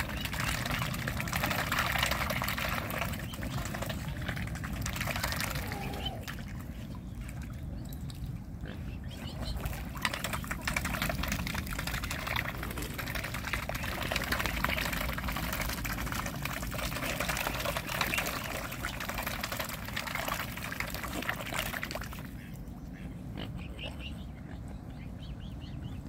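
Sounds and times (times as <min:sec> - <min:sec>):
birds dabbling in water: 0:00.0 - 0:26.0.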